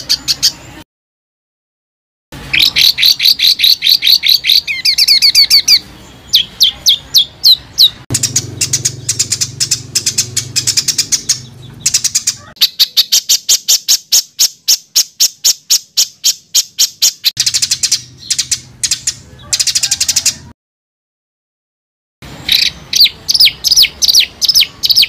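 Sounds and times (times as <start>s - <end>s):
songbird singing harsh notes: 0.0s - 0.8s, 2.4s - 20.5s, 22.2s - 25.0s.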